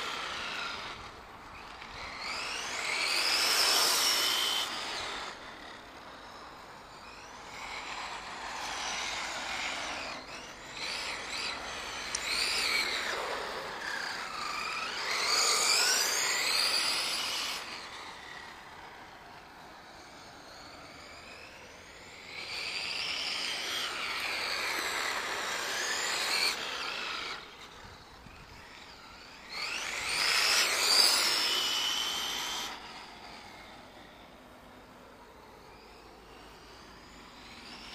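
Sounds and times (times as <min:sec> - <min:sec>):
rc car motor whining: 0:00.0 - 0:37.9.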